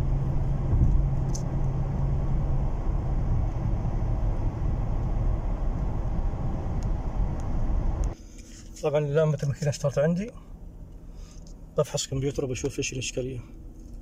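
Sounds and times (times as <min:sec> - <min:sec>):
engine and road rumble: 0:00.0 - 0:14.0
low steady hum: 0:00.0 - 0:14.0.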